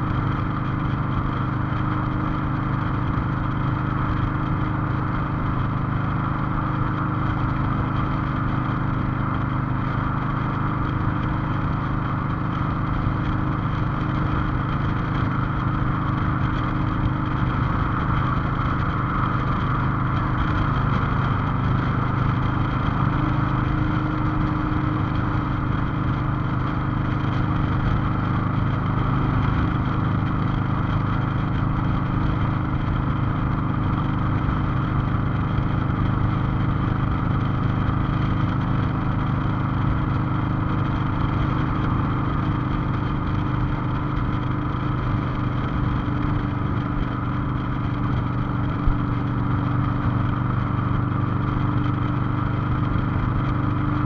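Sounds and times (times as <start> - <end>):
motorcycle engine droning: 0.0 - 54.0
road and wind hiss: 0.0 - 54.0.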